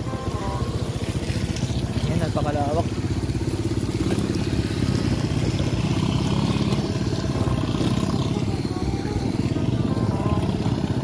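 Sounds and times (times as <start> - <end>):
small motorcycle engine running: 0.0 - 11.0
wind and road noise: 0.0 - 11.0.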